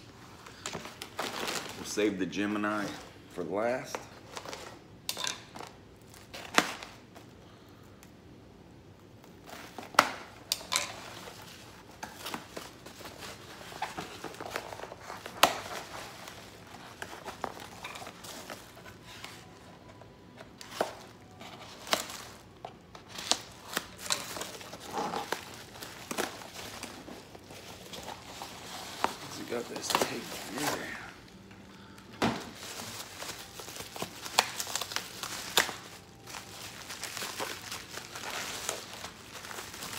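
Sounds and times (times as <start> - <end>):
plastic packaging crinkling and tearing: 0.4 - 3.1, 3.7 - 7.2, 9.2 - 39.9.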